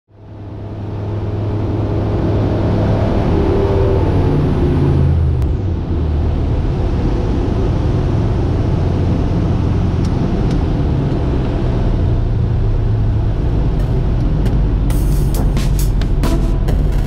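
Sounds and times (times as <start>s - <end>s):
aircraft engine winding down: 0.1s - 17.0s
airflow rushing over cockpit: 0.2s - 17.0s.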